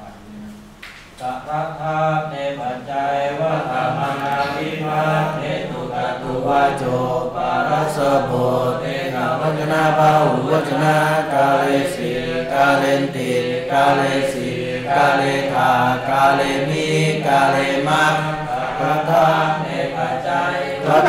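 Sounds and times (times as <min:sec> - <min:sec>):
person chanting: 0:01.2 - 0:21.0.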